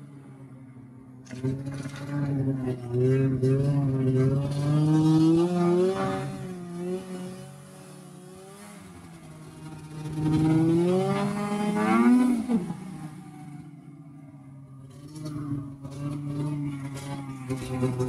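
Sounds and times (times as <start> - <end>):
snowmobile engine revving: 1.3 - 13.4, 14.8 - 18.0.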